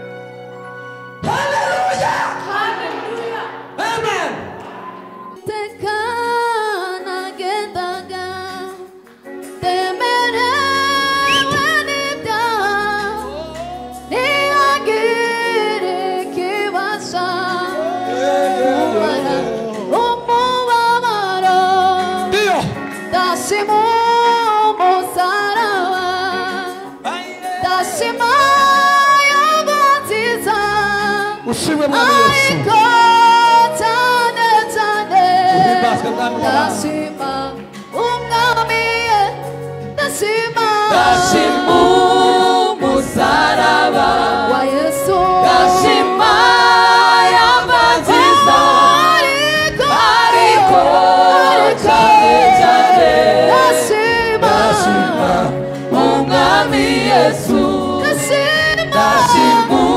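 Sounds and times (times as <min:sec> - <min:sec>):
instrumental accompaniment: 0:00.0 - 0:59.9
woman singing gospel: 0:05.3 - 0:08.9, 0:09.5 - 0:22.3, 0:23.1 - 0:59.9.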